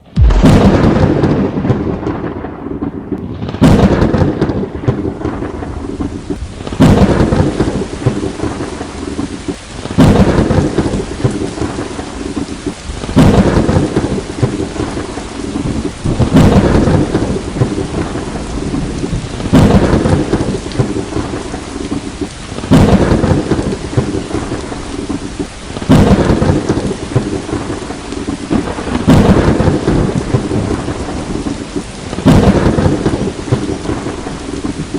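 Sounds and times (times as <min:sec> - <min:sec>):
heavy rain: 0:00.0 - 0:34.9
thunder crack and rumble: 0:00.0 - 0:34.9.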